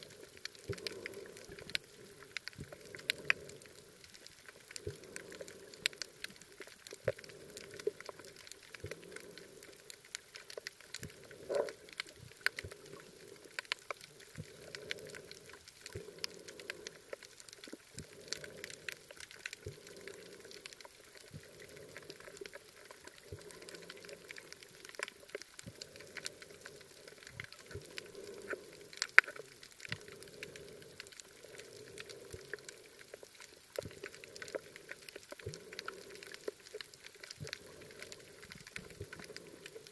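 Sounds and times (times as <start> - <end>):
snapping shrimp clicks underwater: 0.0 - 39.9
soft wash of water: 0.0 - 39.9.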